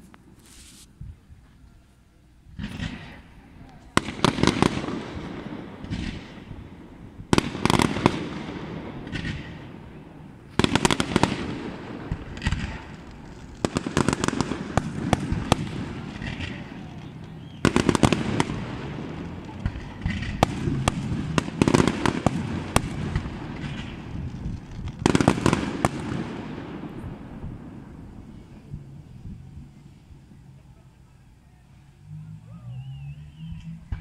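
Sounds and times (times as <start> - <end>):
fireworks crackling pops: 0.0 - 1.6, 2.5 - 30.9
fireworks rumble: 0.0 - 34.0.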